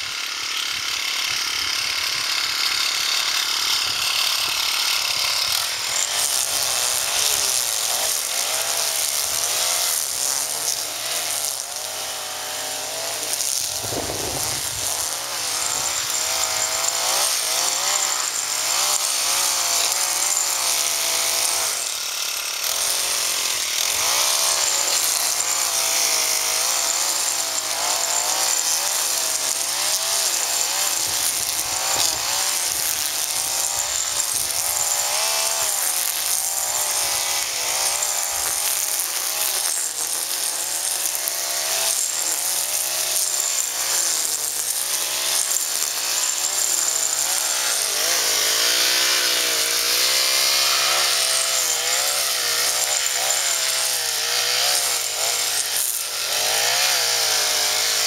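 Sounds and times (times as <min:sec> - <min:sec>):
string trimmer running: 0:00.0 - 0:58.0.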